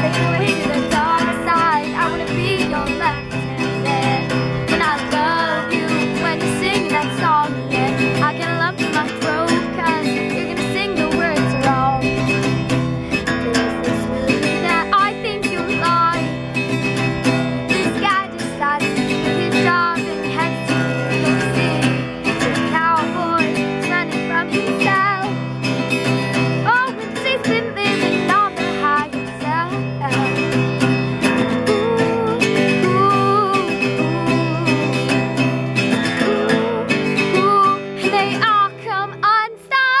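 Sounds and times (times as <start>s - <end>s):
acoustic guitar strumming chords: 0.0s - 40.0s
girl singing: 0.0s - 40.0s.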